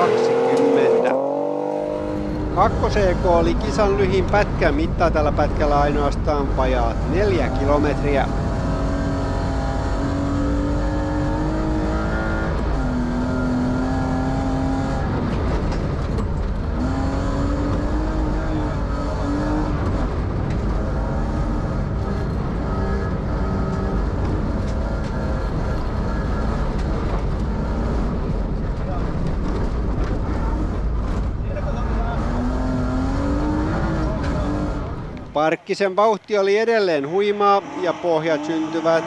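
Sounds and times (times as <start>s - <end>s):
car engine pulling hard: 0.0s - 35.3s, 36.9s - 39.0s.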